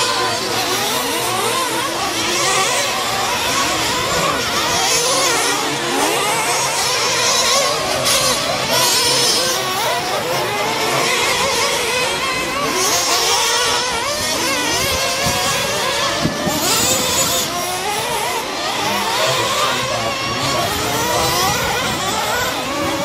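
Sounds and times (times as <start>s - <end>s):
toy truck motors revving: 0.0s - 23.0s.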